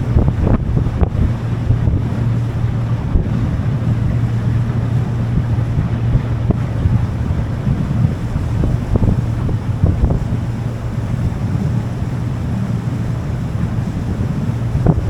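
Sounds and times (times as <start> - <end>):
boat engine running: 0.0 - 15.0
water rushing past hull: 0.0 - 15.0
wind buffeting microphone: 0.0 - 15.0.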